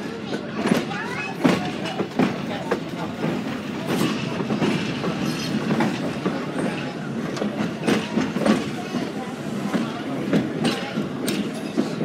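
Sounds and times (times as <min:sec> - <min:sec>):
electric train rumbling on track: 0:00.0 - 0:12.0
wheels clicking over rail joints: 0:00.2 - 0:12.0.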